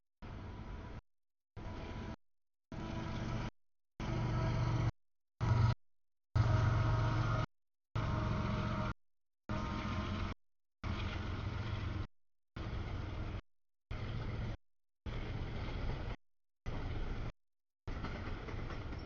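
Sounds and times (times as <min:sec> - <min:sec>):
freight train rumbling past: 0:01.6 - 0:05.8, 0:06.4 - 0:12.0, 0:12.6 - 0:17.3, 0:17.9 - 0:19.0.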